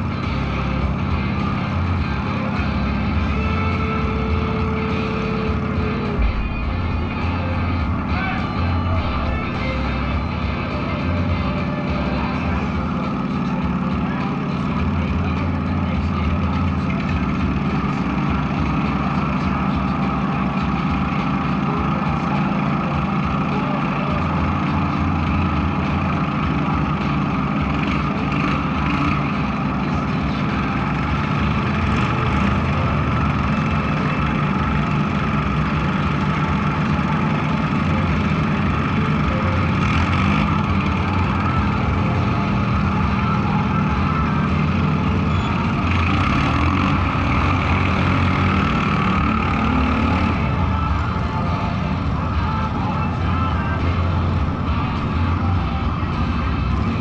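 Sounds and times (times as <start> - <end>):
lawn mower engines droning: 0.0 - 57.0.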